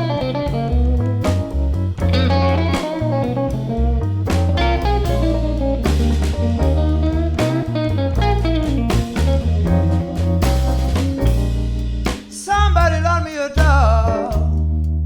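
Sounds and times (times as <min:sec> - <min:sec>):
lead guitar: 0:00.0 - 0:12.7
drum kit: 0:00.0 - 0:14.9
bass: 0:00.0 - 0:15.0
keyboard: 0:00.0 - 0:15.0.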